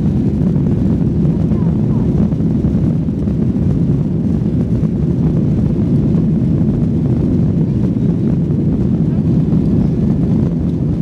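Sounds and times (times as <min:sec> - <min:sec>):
cabin airflow: 0:00.0 - 0:11.0
jet engines rumbling: 0:00.0 - 0:11.0.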